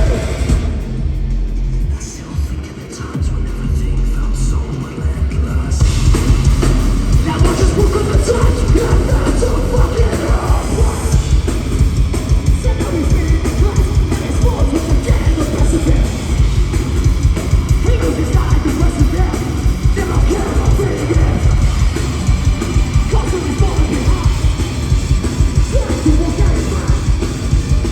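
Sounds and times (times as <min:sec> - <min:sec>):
heavy metal band playing live: 0:00.0 - 0:27.9
yelled vocals: 0:00.0 - 0:27.9.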